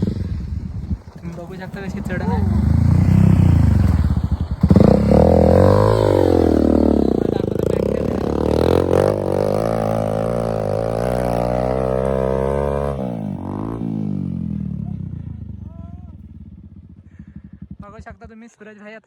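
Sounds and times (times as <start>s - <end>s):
motorcycle engine revving: 0.0s - 18.3s.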